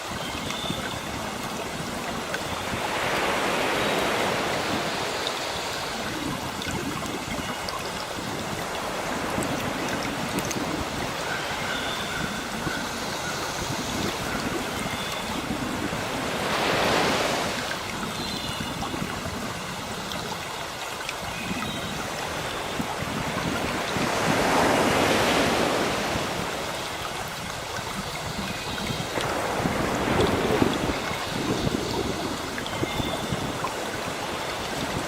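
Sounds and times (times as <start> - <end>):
sea waves washing onto shore: 0.0 - 35.0.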